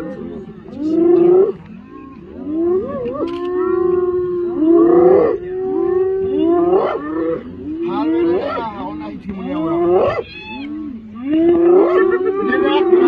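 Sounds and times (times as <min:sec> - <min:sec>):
hyenas calling: 0:00.0 - 0:13.0.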